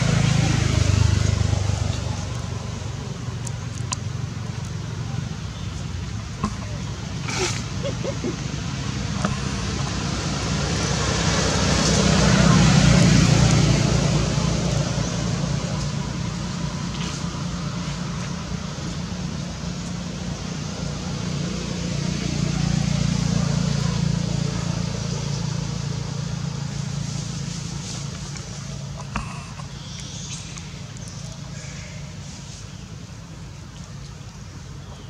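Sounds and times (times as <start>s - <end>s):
outdoor background noise: 0.0s - 35.0s.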